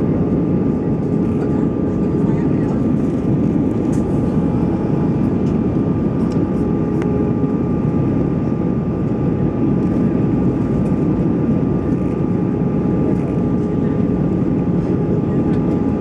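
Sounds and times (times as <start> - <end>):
jet engine and airflow rumble: 0.0 - 16.0.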